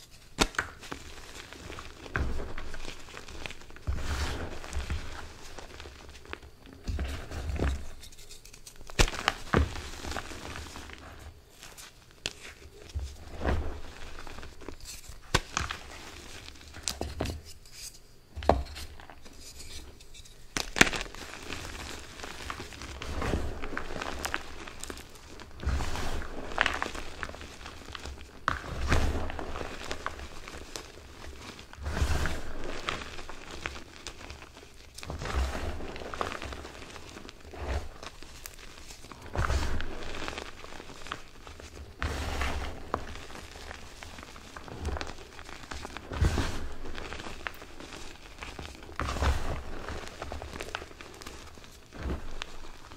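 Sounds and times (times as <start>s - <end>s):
hands crunching chalk: 0.0s - 52.9s.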